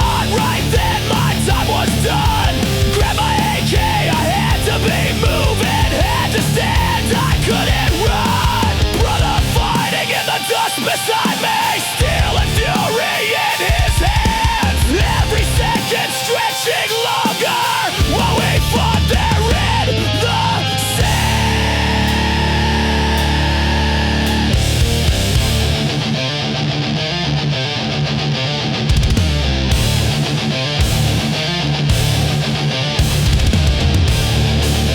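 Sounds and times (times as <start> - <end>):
heavy metal music: 0.0 - 34.9.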